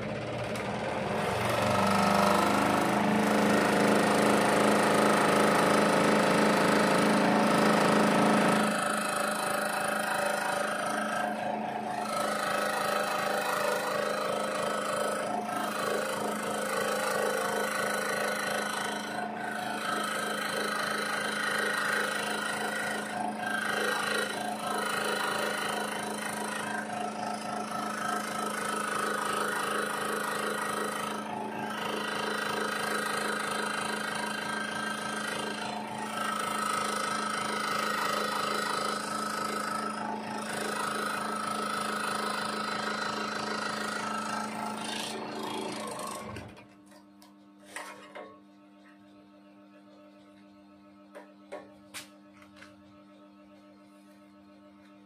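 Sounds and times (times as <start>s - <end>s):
scroll saw cutting acrylic: 0.0s - 48.3s.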